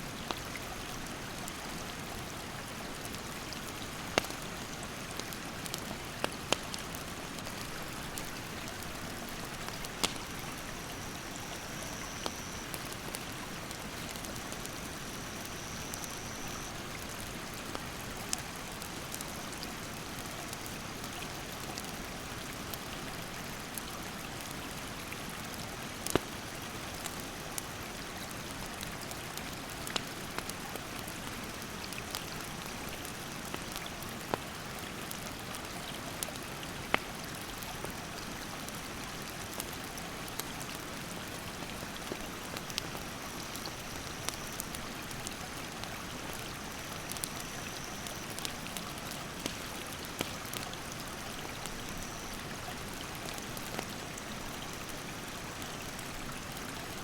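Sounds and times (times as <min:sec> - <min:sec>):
campfire crackling: 0:00.2 - 0:57.0.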